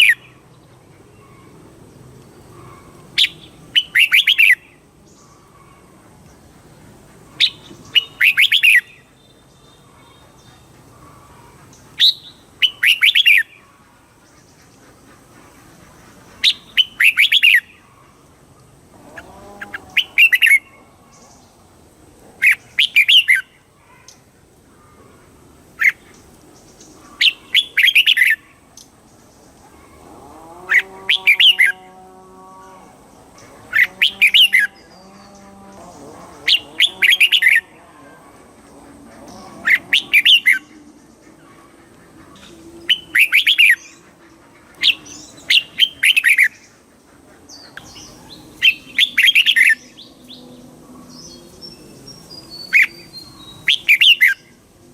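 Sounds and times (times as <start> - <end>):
faint low drawn-out bird call: 0.0 - 54.8
bird singing chirpy phrases: 2.3 - 5.8, 7.4 - 13.6, 16.4 - 17.9, 18.6 - 21.6, 22.4 - 24.3, 25.8 - 30.1, 30.7 - 54.7.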